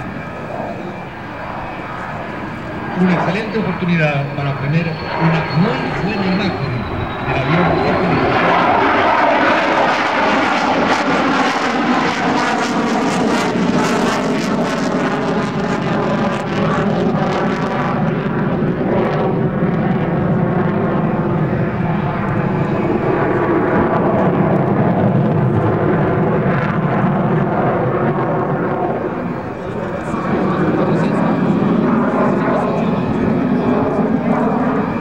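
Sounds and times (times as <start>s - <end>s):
jet engine flying past: 0.0s - 35.0s.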